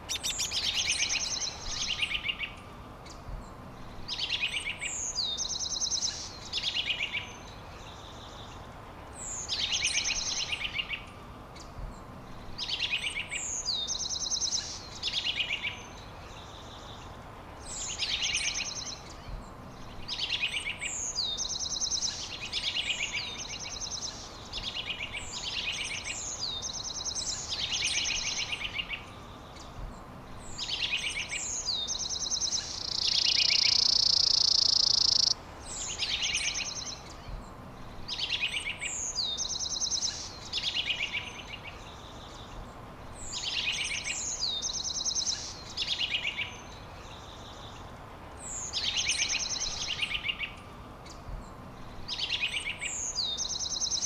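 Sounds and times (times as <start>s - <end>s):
background hiss: 0.0s - 54.0s
songbird singing: 0.0s - 54.0s.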